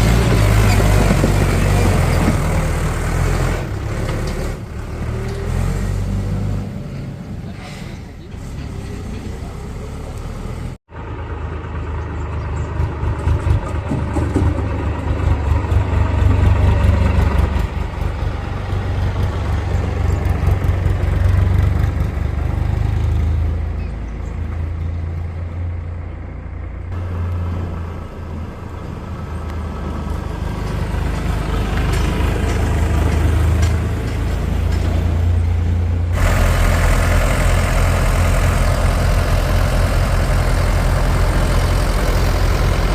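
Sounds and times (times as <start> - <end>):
heavy diesel engine running: 7.4 - 42.9.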